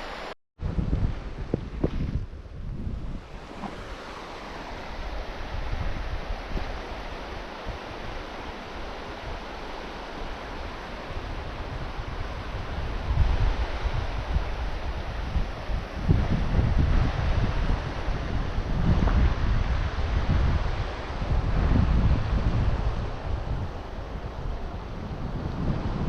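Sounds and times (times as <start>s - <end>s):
storm wind rushing: 0.6s - 26.0s
wind buffeting microphone: 0.6s - 26.0s.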